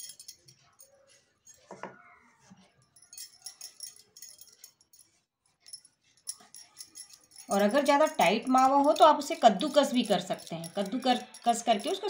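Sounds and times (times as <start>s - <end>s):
bangles clinking and jingling: 0.0s - 12.0s.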